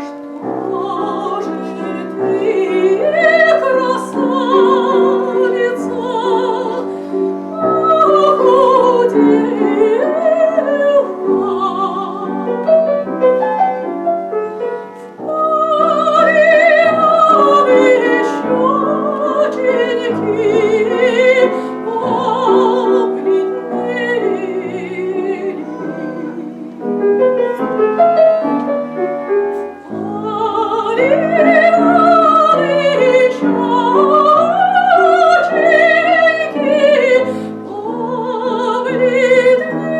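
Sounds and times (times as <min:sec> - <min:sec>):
operatic singing: 0:00.0 - 0:12.8, 0:15.2 - 0:27.1, 0:29.8 - 0:39.9
piano accompaniment: 0:00.0 - 0:39.9.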